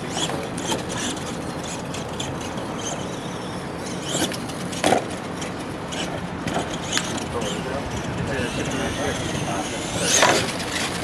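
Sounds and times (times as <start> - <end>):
steady noisy background: 0.0 - 11.0
toy truck driving: 0.0 - 11.0.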